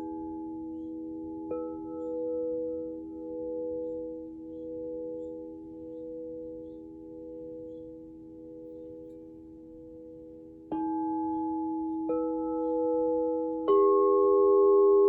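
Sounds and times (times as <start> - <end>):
crystal singing bowls ringing: 0.0 - 15.0.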